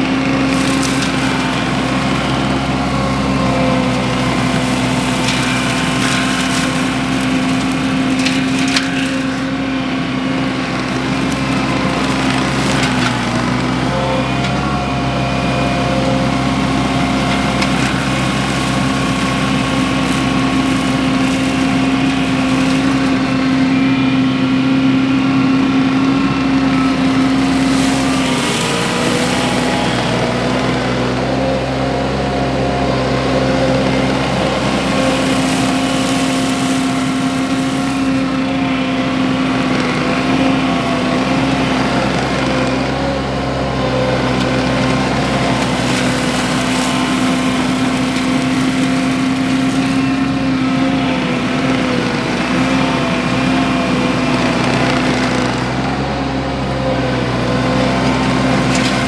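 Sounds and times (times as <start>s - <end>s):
skid steer engine drone: 0.0s - 59.0s.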